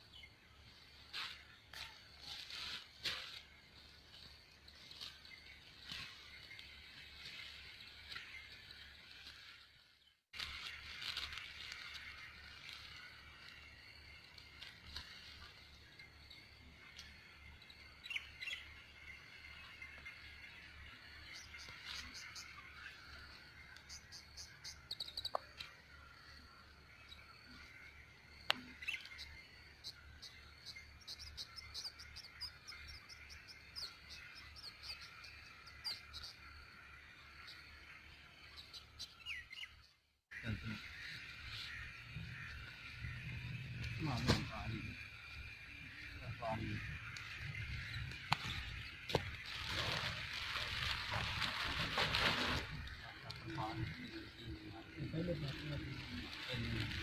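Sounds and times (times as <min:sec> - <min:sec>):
faint outdoor background: 0:00.0 - 0:57.0
small birds chirping: 0:00.0 - 0:57.0
dry rice stalks crackling: 0:00.6 - 0:38.0, 0:40.4 - 0:57.0.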